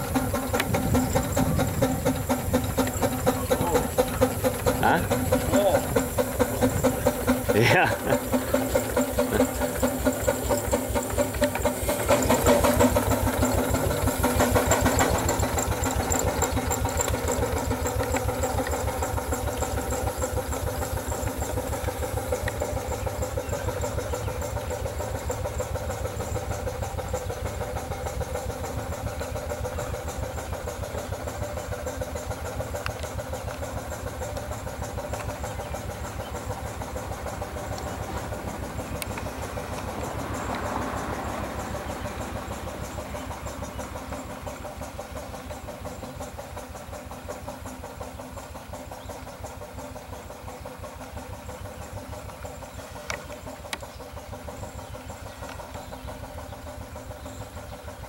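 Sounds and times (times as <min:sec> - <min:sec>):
steam engine beating: 0:00.0 - 0:58.0.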